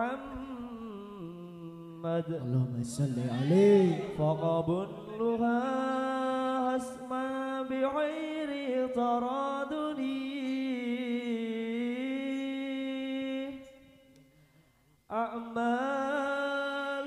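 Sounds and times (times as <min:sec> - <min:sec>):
man singing unaccompanied: 0:00.0 - 0:14.0, 0:15.1 - 0:17.0.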